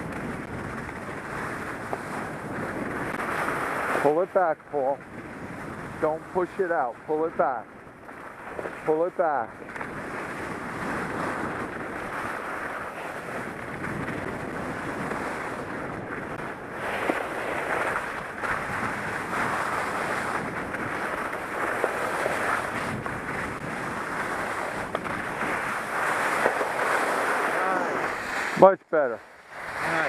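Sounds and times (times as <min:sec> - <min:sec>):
wind on microphone: 0:00.0 - 0:04.1, 0:04.8 - 0:28.7
skis scraping over snow: 0:00.0 - 0:30.0.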